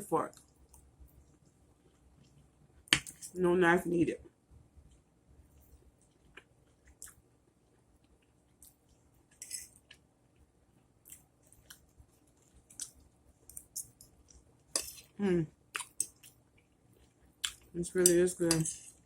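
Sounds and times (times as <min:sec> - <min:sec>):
person chewing food: 0:00.4 - 0:03.3, 0:04.8 - 0:17.8.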